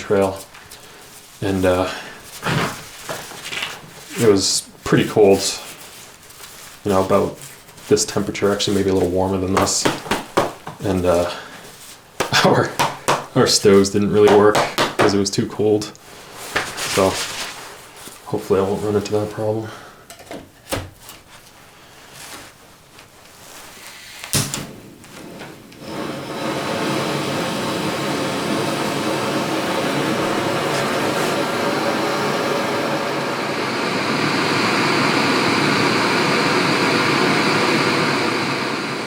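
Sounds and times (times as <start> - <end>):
stove burner hissing: 0.0 - 39.0.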